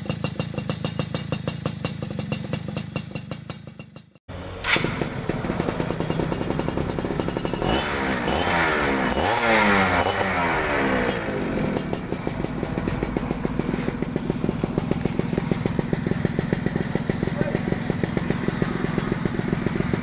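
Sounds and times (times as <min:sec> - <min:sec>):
two-stroke engine idling and revving: 0:00.0 - 0:20.0.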